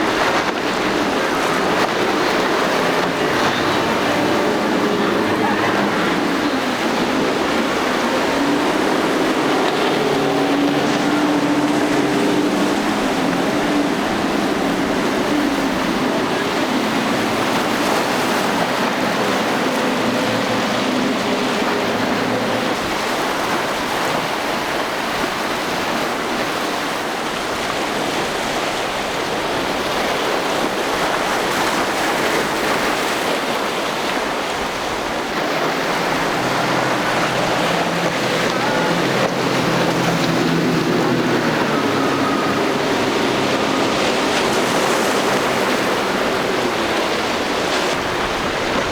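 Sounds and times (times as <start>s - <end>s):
boat engines droning: 0.0s - 48.9s
low engine hum: 0.0s - 48.9s
waves and surf washing: 0.0s - 48.9s
wind on microphone: 0.0s - 48.9s.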